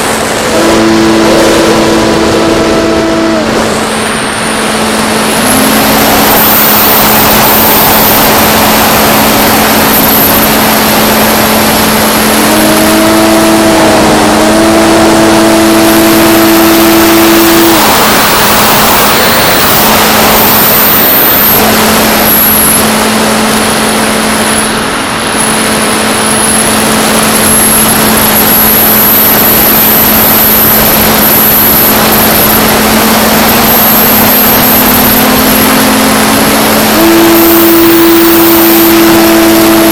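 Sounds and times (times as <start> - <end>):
electric motor whine: 0.0 - 39.9
rush of air: 0.0 - 39.9.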